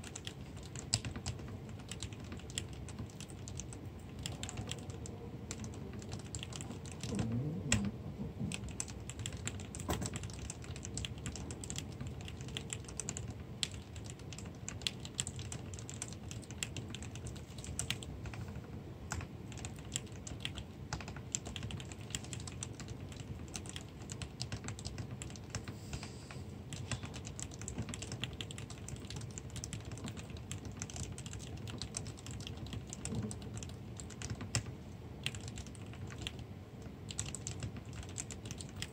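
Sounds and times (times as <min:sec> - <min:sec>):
mechanical keyboard typing: 0:00.0 - 0:26.0, 0:26.6 - 0:38.9.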